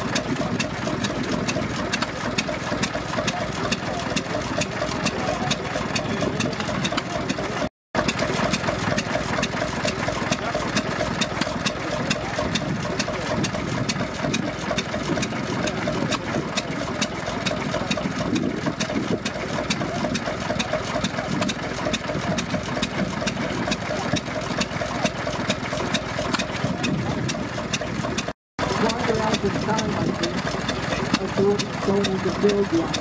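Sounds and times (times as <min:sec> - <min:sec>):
stationary engine idling: 0:00.0 - 0:33.0.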